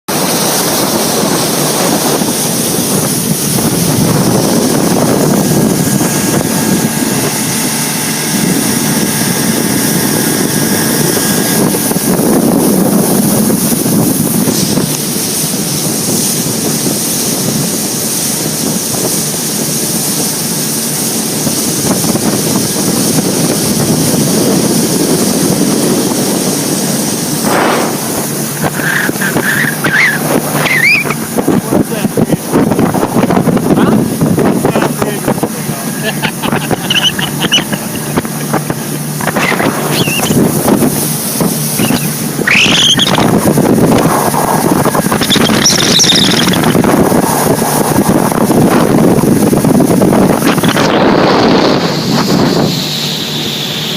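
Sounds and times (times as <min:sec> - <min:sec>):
water rushing: 0:00.0 - 0:53.9
motorboat engine: 0:00.1 - 0:53.9
wind buffeting microphone: 0:00.1 - 0:53.9.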